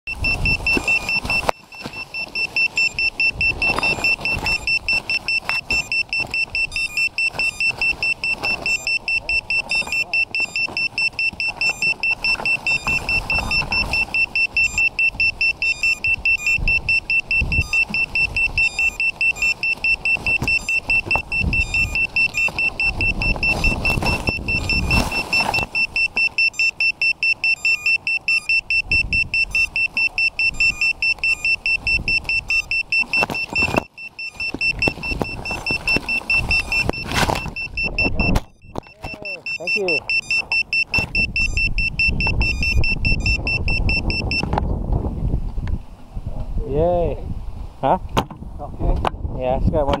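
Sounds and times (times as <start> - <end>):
leaves and twigs rustling: 0.1 - 42.4.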